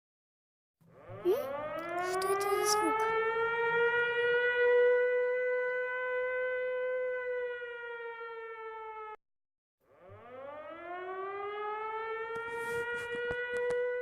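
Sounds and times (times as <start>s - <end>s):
air-raid siren wailing: 0.8s - 9.2s, 9.8s - 14.0s.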